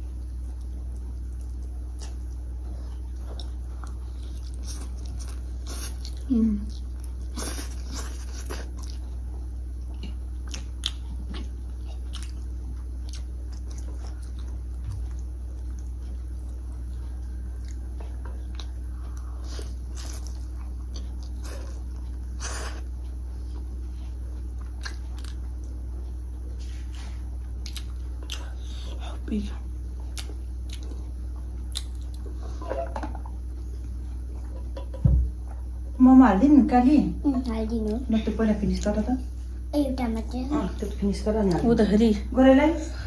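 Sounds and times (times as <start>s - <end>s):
steady low hum: 0.0s - 43.0s
children chewing and smacking: 0.1s - 35.8s.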